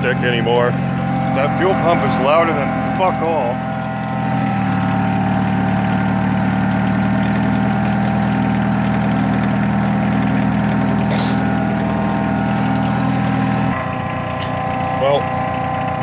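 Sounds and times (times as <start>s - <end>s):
diesel engine idling: 0.0s - 16.0s
electric fuel pump whine: 0.0s - 16.0s.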